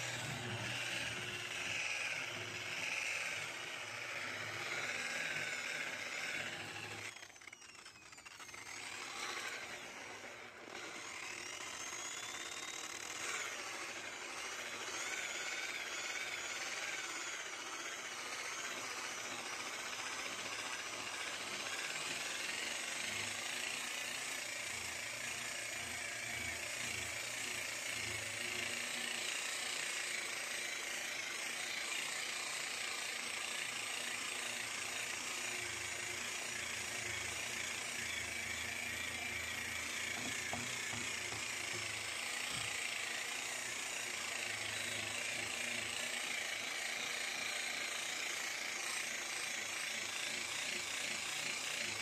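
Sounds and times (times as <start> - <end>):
rotary polisher motor whine: 0.0 - 52.0.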